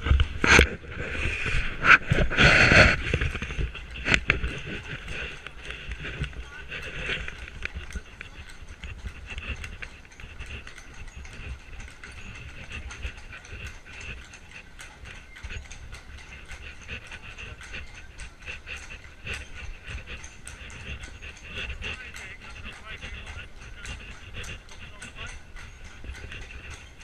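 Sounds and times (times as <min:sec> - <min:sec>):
carriage wheels rattling over cobbles: 0:00.0 - 0:27.0
hooves clip-clopping on cobblestones: 0:00.0 - 0:27.0.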